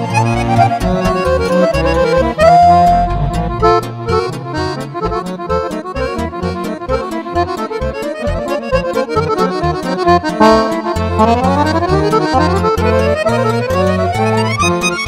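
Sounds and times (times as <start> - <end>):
accordions playing fast party music: 0.0 - 15.0.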